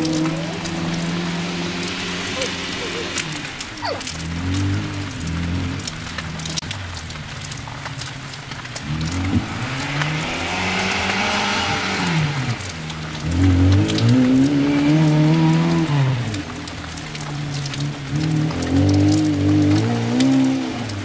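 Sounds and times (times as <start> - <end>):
rally car engine revving: 0.0 - 6.8, 7.4 - 21.0.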